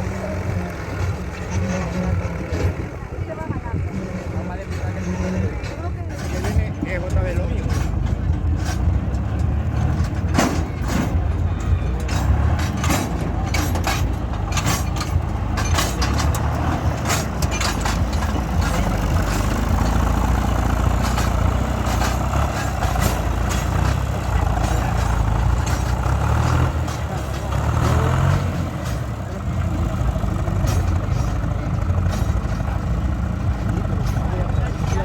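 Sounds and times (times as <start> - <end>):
tractor engine running: 0.0 - 35.0
sharp clicks and knocks: 5.7 - 35.0.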